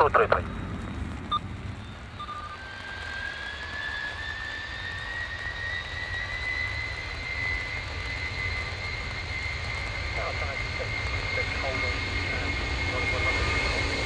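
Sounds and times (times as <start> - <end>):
jet engines spooling up: 0.0 - 14.0.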